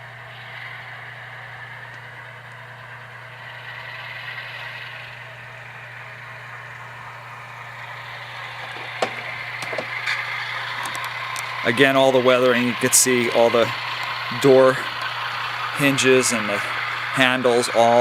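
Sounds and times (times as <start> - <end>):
diesel engine sound from small speaker: 0.0 - 18.0.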